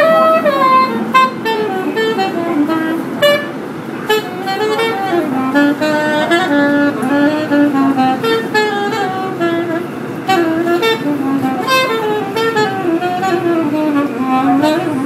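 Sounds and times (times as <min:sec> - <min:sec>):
moving metro train: 0:00.0 - 0:15.0
soprano saxophone jazz melody: 0:00.0 - 0:15.0.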